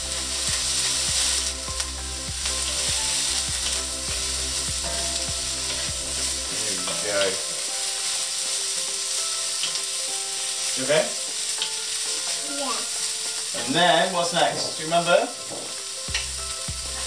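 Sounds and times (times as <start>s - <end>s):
broccoli sizzling in hot oil: 0.0s - 17.0s.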